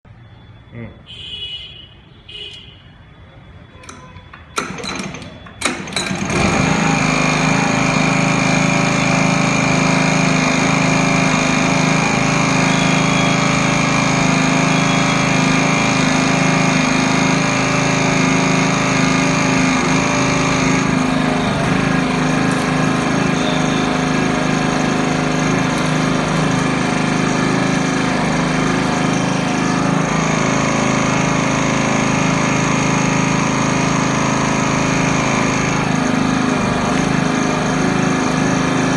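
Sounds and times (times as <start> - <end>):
petrol engine running: 3.4 - 38.9.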